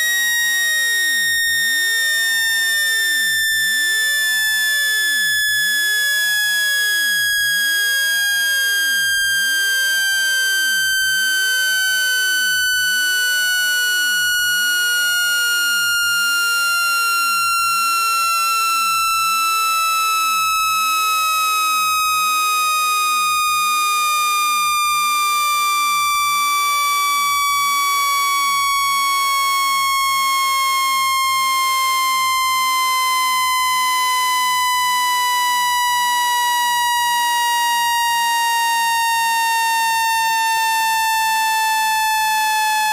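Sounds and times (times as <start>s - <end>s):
buzzy electronic tone falling in pitch: 0.0s - 23.8s, 25.8s - 42.9s.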